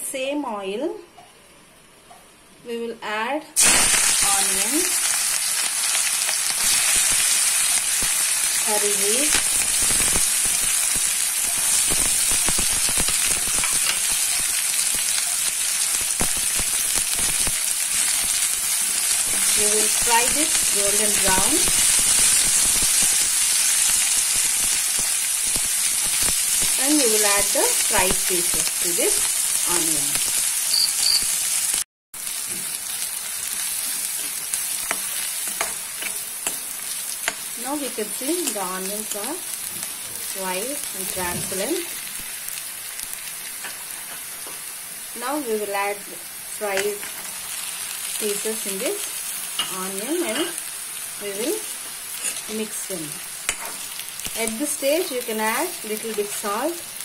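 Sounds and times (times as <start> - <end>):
onion sizzling in hot oil: 3.6 - 57.0.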